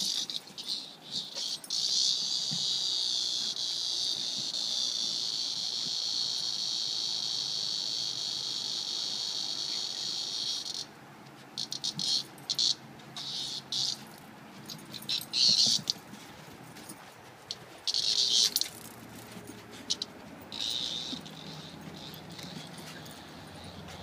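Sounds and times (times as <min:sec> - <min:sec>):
cicada buzzing: 0:00.0 - 0:11.0, 0:11.6 - 0:14.1, 0:15.0 - 0:16.0, 0:17.8 - 0:19.3, 0:19.9 - 0:24.0.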